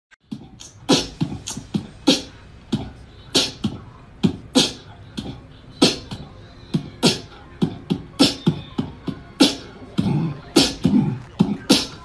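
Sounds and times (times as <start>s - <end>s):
percussive beat music: 0.2s - 12.0s.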